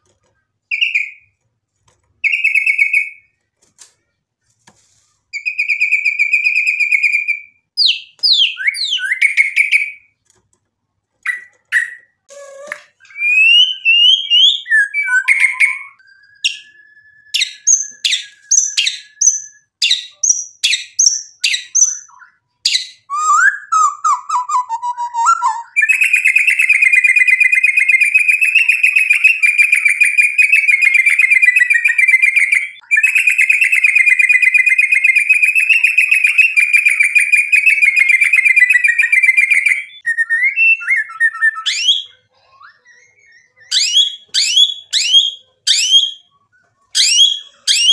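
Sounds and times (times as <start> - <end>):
bird singing whistles and trills: 2.2 - 3.2, 5.4 - 10.1, 11.3 - 47.9.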